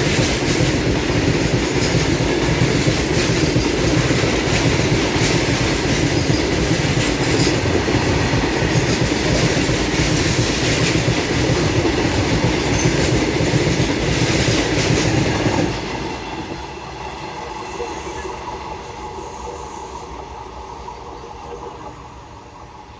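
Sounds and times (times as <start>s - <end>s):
freight train wheels rumbling: 0.0s - 22.9s.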